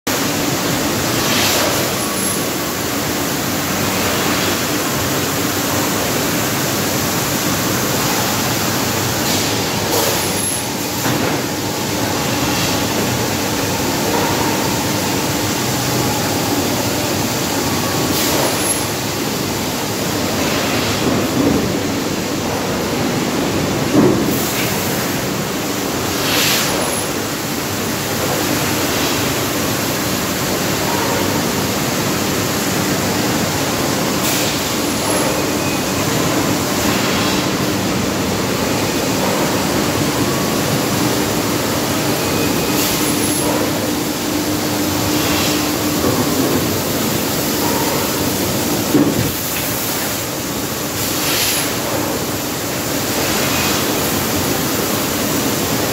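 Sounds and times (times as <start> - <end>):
machine din with low hum: 0.1 - 55.9.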